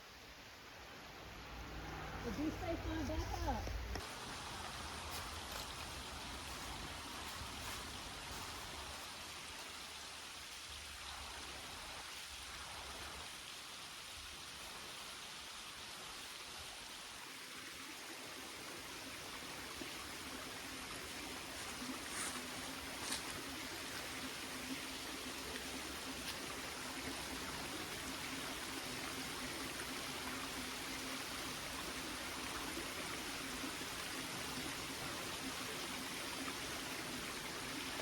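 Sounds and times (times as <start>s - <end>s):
stream water running: 0.0s - 38.0s.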